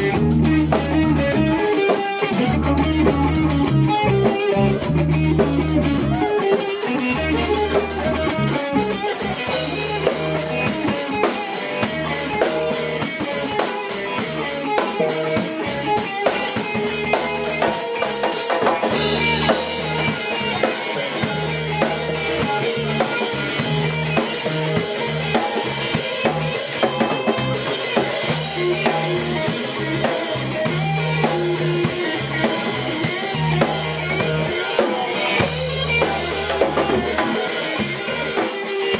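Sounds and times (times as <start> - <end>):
drum kit beat: 0.0 - 38.9
rock band playing live: 0.0 - 38.9.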